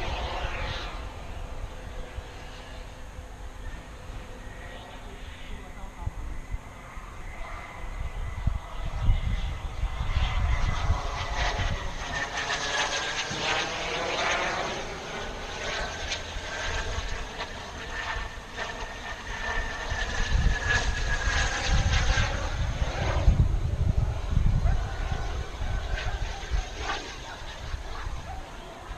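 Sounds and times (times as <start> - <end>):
model jet turbine whine: 0.0 - 28.9.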